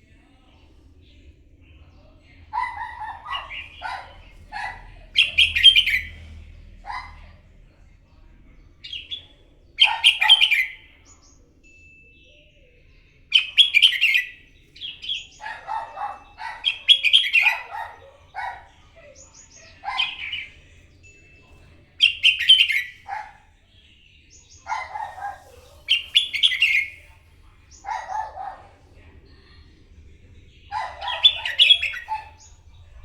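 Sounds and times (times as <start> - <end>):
bulbul singing: 0.1 - 7.2, 8.6 - 28.7, 29.5 - 33.0.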